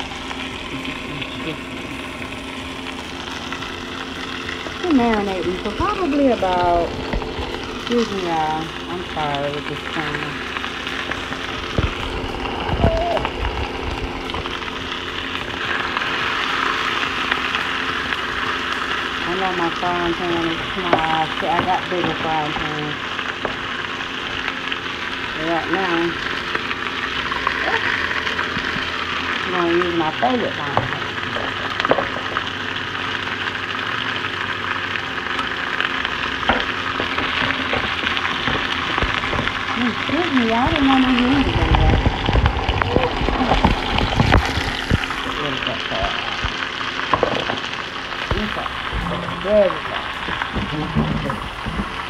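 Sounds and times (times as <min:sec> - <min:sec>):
chicken sizzling in a skillet: 0:00.0 - 0:52.0.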